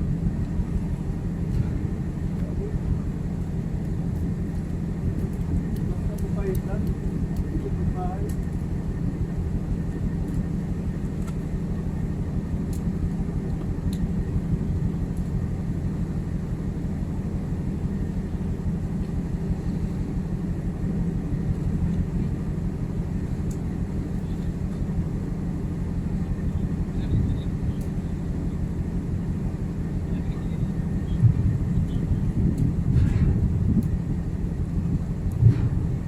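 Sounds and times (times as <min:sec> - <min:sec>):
ship machinery drone: 0:00.0 - 0:36.0.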